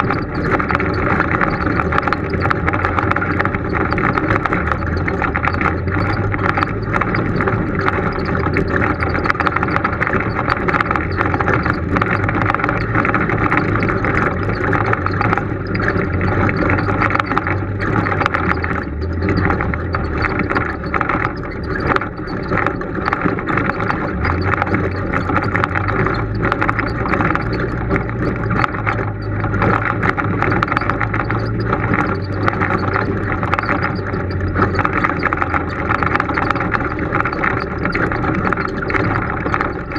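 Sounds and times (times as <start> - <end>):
vehicle engine running slowly: 0.0 - 39.9
vehicle knocking and rattling: 0.0 - 39.9.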